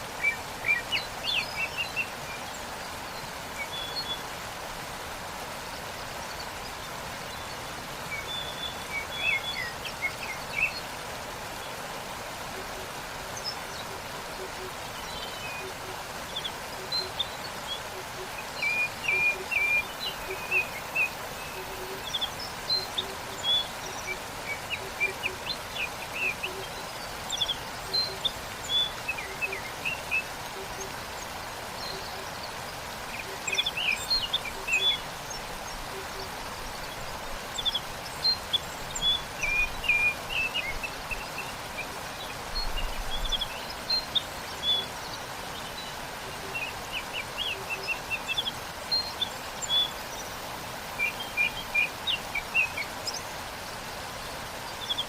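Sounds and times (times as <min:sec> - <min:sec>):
waterfall rushing: 0:00.0 - 0:55.0
small birds chirping: 0:05.6 - 0:55.0.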